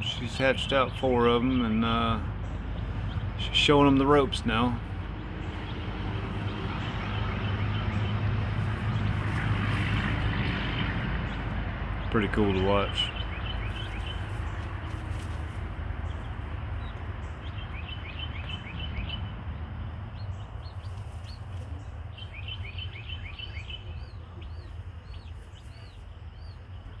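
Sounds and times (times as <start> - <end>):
chicks peeping: 0.0 - 27.0
low background rumble: 0.0 - 27.0.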